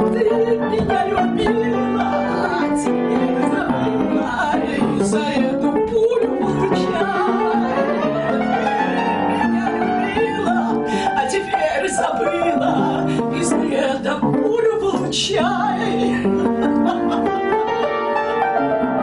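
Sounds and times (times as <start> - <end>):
woman singing: 0.0 - 17.8
upright piano chords: 0.0 - 19.0.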